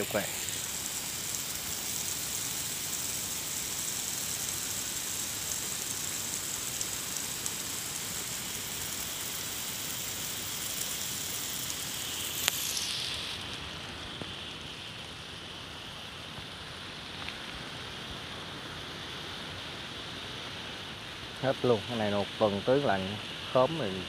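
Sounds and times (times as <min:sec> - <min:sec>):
garden hose spraying water: 0:00.0 - 0:24.0.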